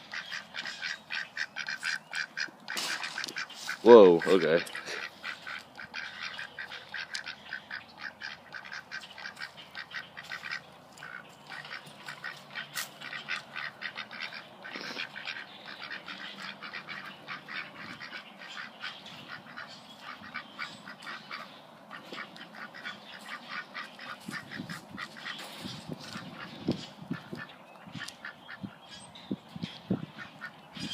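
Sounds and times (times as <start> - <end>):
ducks quacking: 0.0 - 30.9.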